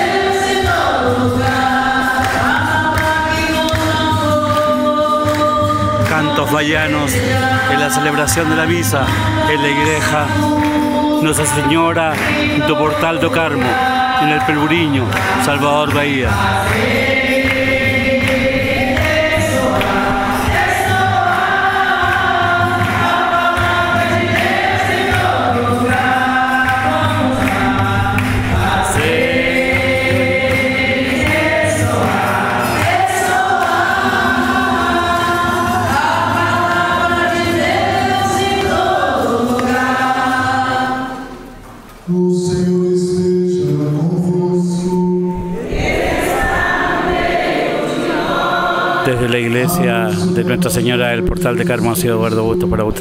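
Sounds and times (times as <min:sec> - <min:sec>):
congregation singing: 0:00.0 - 0:53.0
low accompaniment: 0:00.0 - 0:53.0.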